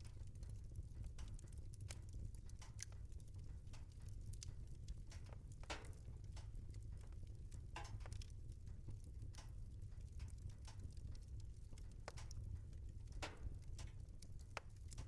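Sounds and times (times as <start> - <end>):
fire low rumble: 0.0 - 15.0
wood fire crackling: 0.0 - 15.0.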